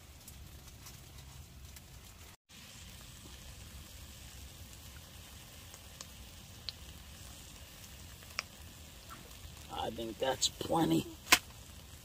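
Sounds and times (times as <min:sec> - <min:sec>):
meat patties sizzling: 0:00.0 - 0:12.0.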